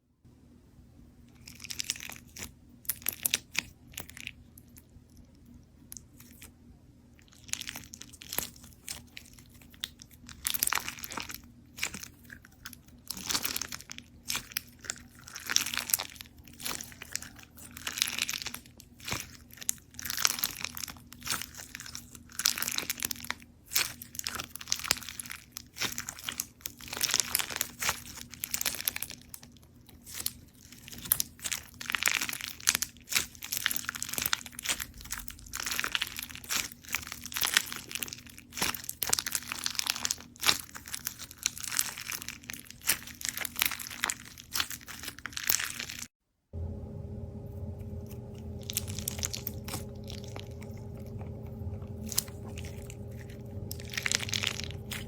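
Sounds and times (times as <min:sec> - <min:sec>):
slime crackling in hands: 0:07.2 - 0:29.3, 0:30.0 - 0:46.1, 0:46.8 - 0:55.0.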